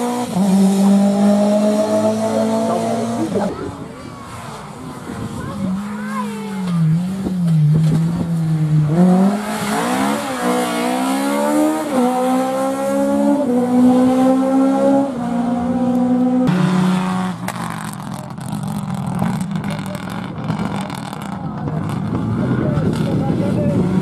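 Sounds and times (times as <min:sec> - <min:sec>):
car engine accelerating through gears: 0:00.0 - 0:03.7, 0:06.7 - 0:24.0.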